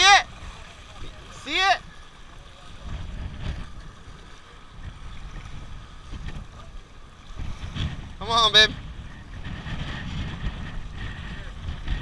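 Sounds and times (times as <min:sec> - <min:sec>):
small waves washing against rocks: 0:00.0 - 0:12.0
wind buffeting microphone: 0:00.0 - 0:12.0.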